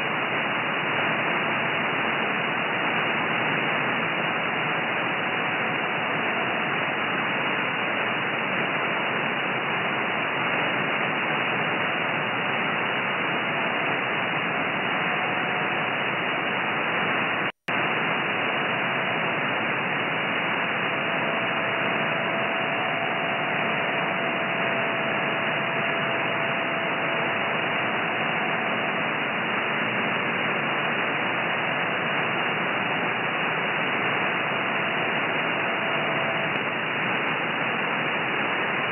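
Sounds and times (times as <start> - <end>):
faint radio tones: 0.0 - 38.9
radio static: 0.0 - 38.9.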